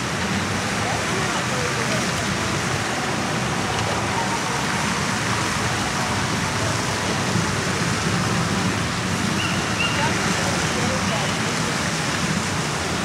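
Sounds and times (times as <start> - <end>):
running splashing water: 0.0 - 13.0.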